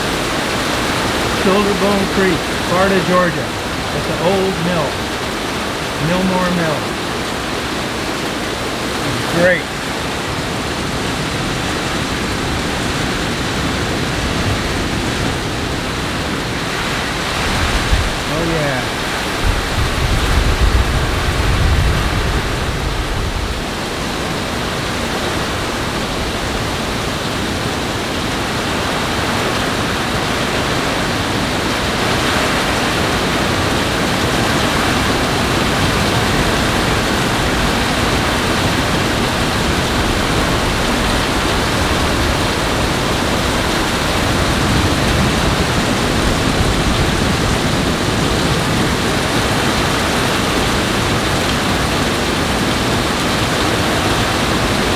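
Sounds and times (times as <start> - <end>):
heavy rain: 0.0 - 54.9
rushing water: 0.0 - 54.9.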